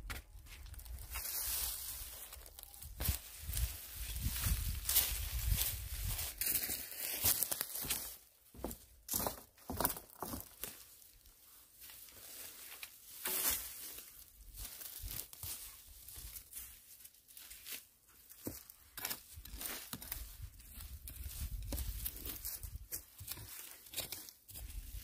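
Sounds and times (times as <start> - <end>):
dry grass and leaves rustling: 0.1 - 25.0.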